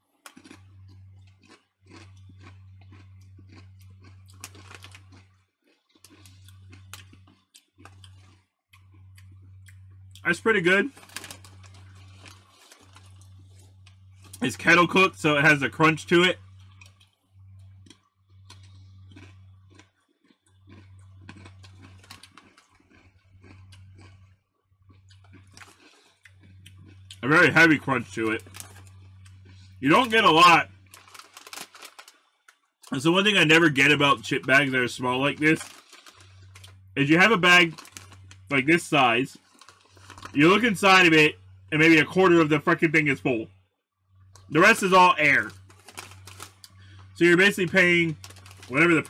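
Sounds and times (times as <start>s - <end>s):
person chewing crisps: 0.0s - 42.1s, 44.2s - 49.0s
low steady hum: 0.0s - 49.0s.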